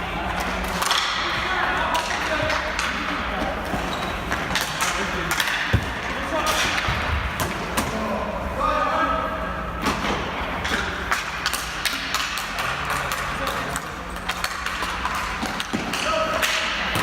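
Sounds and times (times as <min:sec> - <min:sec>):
hockey sticks and ball clacking: 0:00.1 - 0:08.0, 0:09.8 - 0:17.0.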